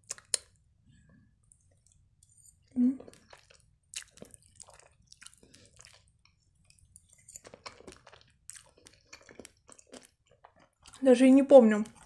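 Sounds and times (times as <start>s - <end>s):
chewing food: 0.0s - 0.6s, 1.4s - 12.0s.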